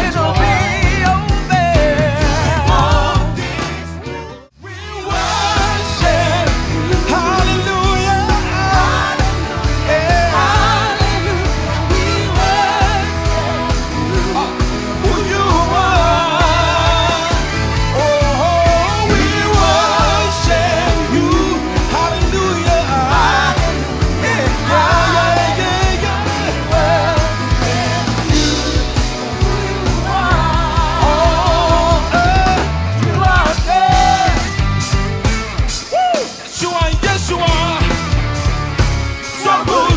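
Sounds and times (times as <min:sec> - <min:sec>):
gospel band with singing: 0:00.0 - 0:39.9.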